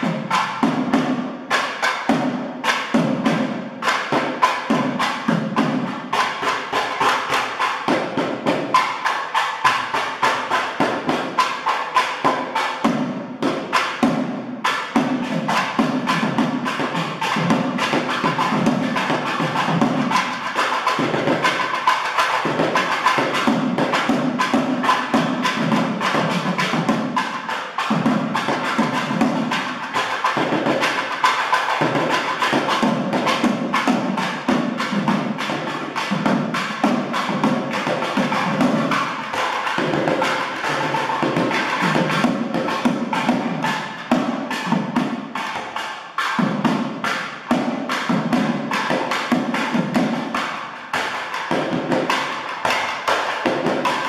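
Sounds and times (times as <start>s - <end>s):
barrel drums fast rhythm: 0.0s - 54.0s.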